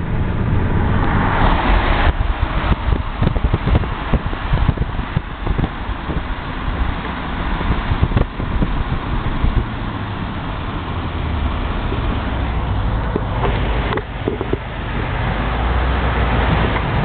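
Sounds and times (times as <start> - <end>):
car engine drone with road noise: 0.0 - 17.0.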